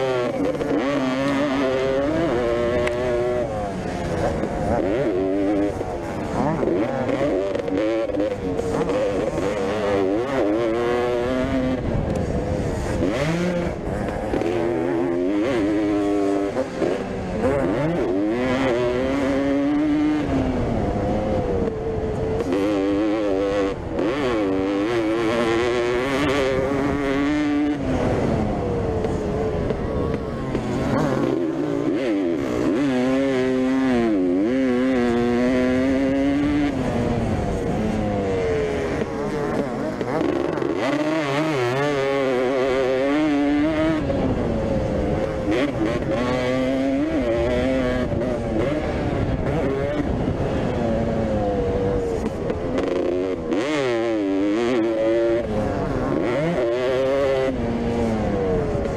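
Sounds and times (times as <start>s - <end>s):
motocross bikes revving: 0.0s - 58.9s.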